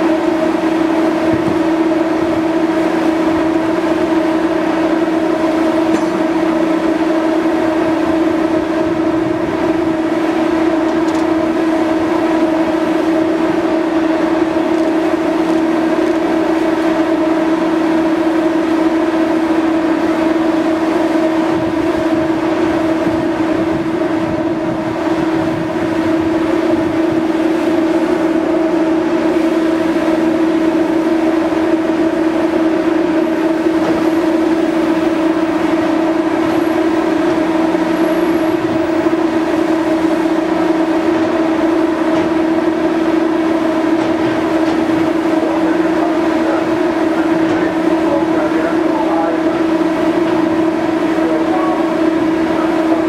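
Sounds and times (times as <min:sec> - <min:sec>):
ship machinery hum: 0:00.0 - 0:53.0.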